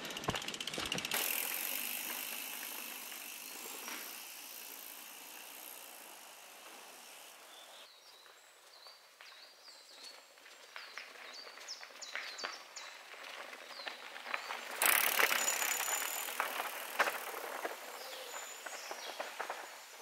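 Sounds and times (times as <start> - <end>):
bicycle tyres rolling on dirt: 0.0 - 20.0.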